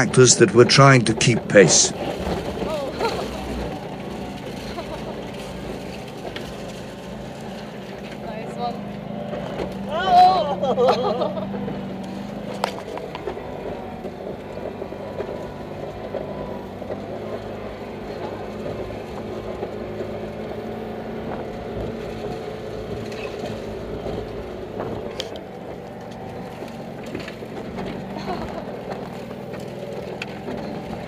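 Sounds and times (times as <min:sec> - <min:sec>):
car engine running: 0:00.0 - 0:31.0
car jolting over bumps: 0:00.0 - 0:31.0.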